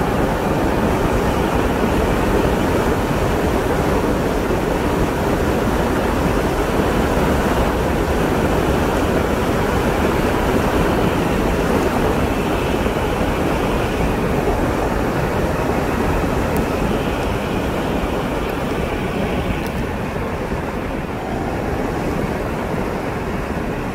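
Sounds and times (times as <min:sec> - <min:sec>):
road noise on asphalt: 0:00.0 - 0:23.9
wind on microphone: 0:00.0 - 0:23.9.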